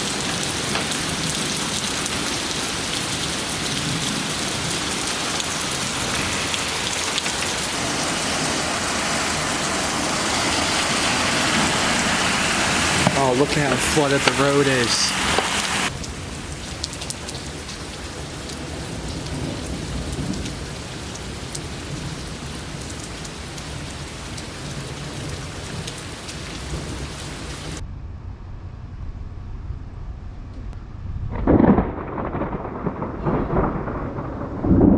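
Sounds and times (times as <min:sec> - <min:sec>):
heavy rain falling: 0:00.0 - 0:27.8, 0:31.4 - 0:34.9
thunderclap rumbling: 0:00.0 - 0:34.9.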